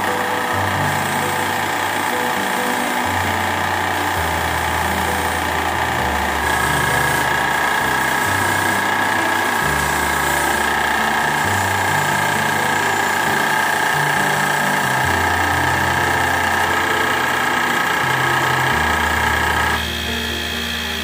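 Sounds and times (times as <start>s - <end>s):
wood lathe motor whine: 0.0s - 21.0s.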